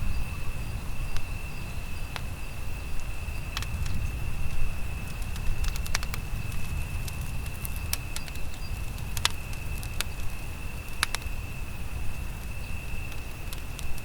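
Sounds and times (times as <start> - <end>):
campfire crackling and popping: 0.1 - 14.0.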